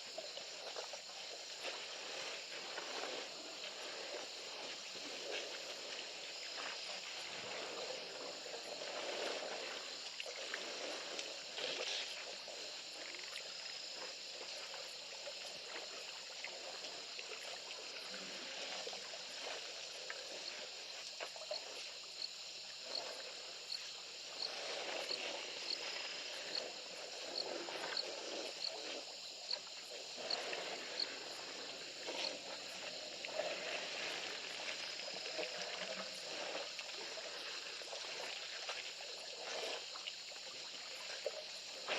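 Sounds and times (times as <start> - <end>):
water sloshing and splashing: 0.0 - 41.9.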